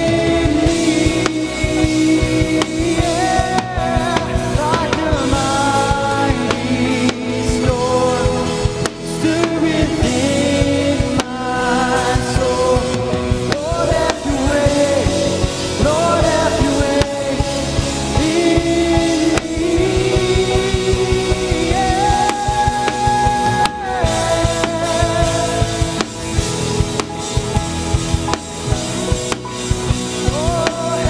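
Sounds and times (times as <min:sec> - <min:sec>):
drum kit: 0:00.0 - 0:31.0
electric bass guitar: 0:00.0 - 0:31.0
electric guitar: 0:00.0 - 0:31.0.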